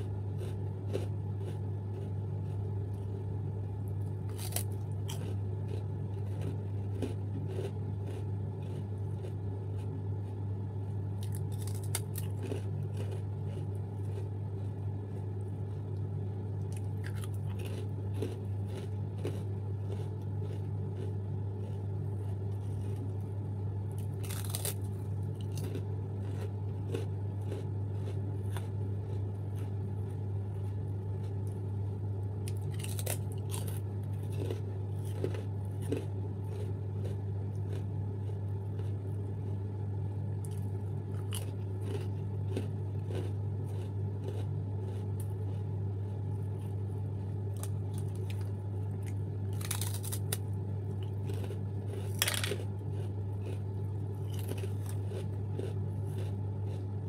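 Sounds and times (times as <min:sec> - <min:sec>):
chewing crunchy crackers: 0:00.0 - 0:57.0
steady low hum: 0:00.0 - 0:57.0.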